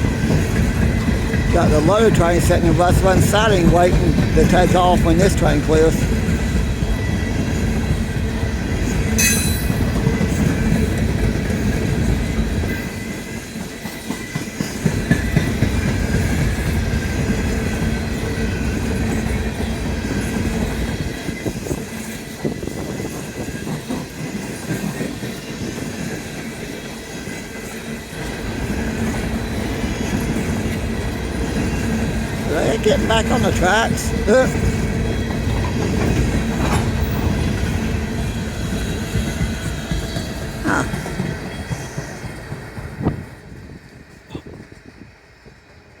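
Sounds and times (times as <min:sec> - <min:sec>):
wheels clacking over rail joints: 0:00.0 - 0:43.3
train cars rumbling past: 0:00.0 - 0:46.0.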